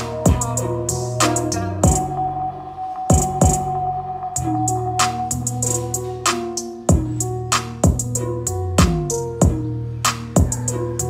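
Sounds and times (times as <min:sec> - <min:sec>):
drum-machine beat with bass and keys: 0:00.0 - 0:11.0.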